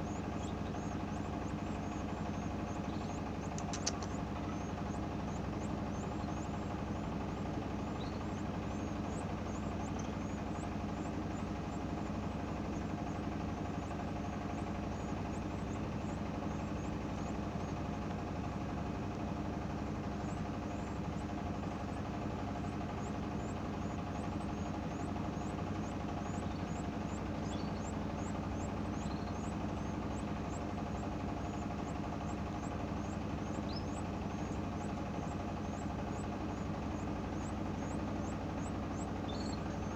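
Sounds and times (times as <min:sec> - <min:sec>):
small birds chirping: 0:00.0 - 0:39.9
steady mechanical hum: 0:00.0 - 0:39.9.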